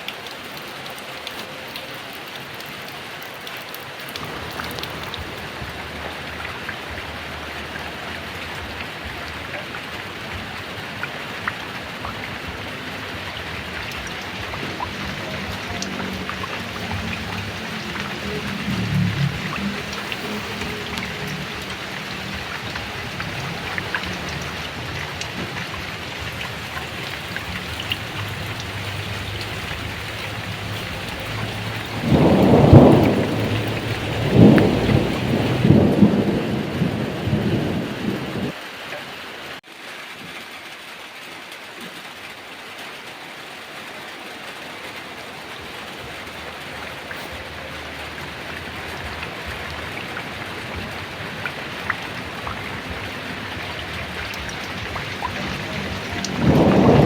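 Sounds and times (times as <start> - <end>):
heavy rain falling: 0.0 - 57.0
thunder rolling: 4.2 - 38.6, 45.4 - 57.0.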